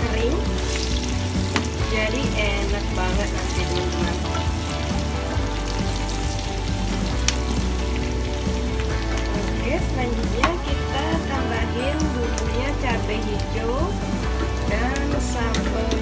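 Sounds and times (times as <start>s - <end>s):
background music: 0.0s - 16.0s
meat and shallots sizzling in oil: 0.0s - 16.0s.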